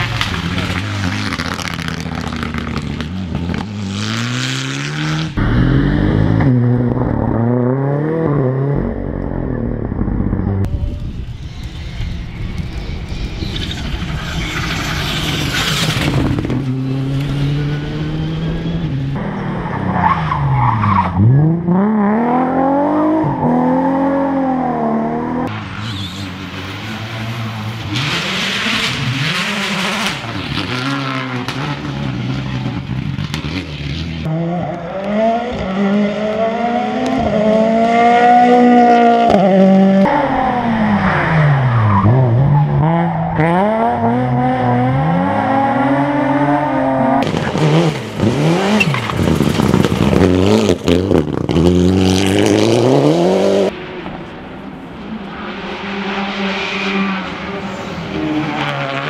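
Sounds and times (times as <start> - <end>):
rally car engines passing: 0.0 - 59.0.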